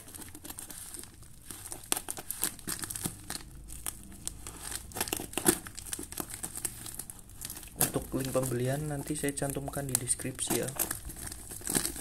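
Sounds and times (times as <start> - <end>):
plastic wrapping crinkling: 0.0 - 12.0
scissors cutting plastic: 0.0 - 12.0.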